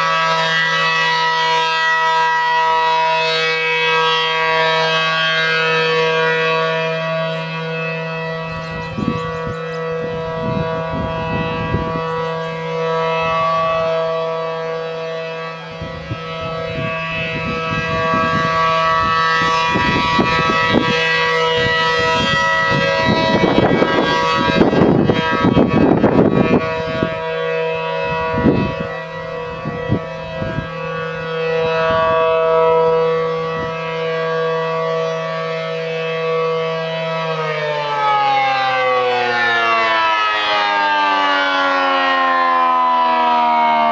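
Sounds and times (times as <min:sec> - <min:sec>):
outdoor warning siren: 0:00.0 - 0:43.9.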